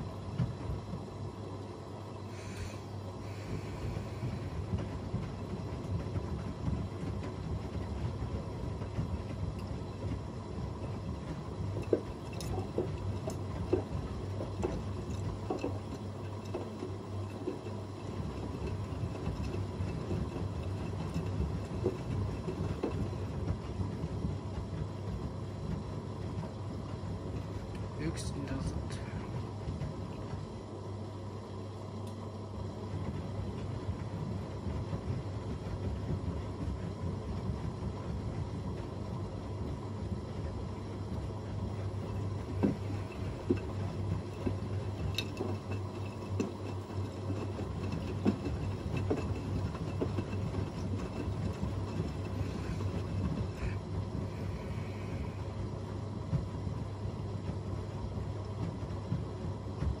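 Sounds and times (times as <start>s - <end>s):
washing machine hum: 0.0s - 60.0s.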